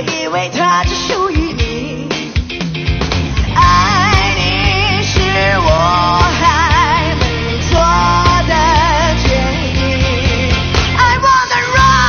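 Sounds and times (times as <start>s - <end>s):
person singing rock song: 0.0s - 12.0s
rock band with drums: 0.0s - 12.0s.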